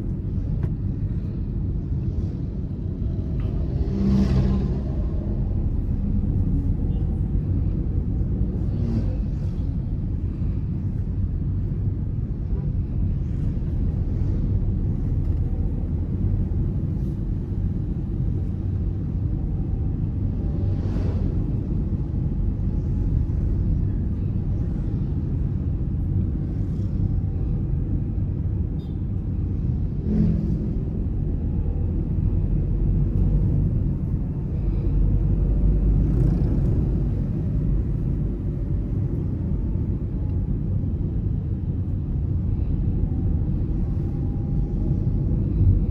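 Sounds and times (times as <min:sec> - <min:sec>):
car road and engine noise: 0:00.0 - 0:45.9.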